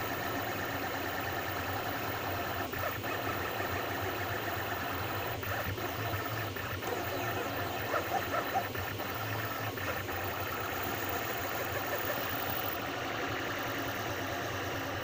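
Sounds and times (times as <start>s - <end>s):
printer mechanical hum: 0.0s - 15.0s
stepper motor chirps: 0.0s - 15.0s.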